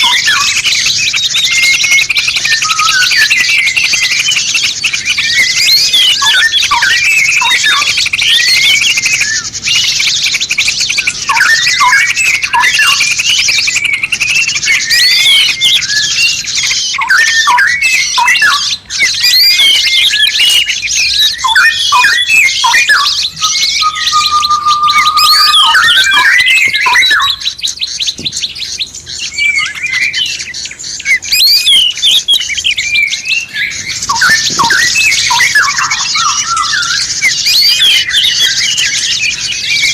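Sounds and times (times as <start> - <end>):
high buzzy bird trill: 0.0 - 39.9
songbirds chirping and whistling: 0.0 - 39.9.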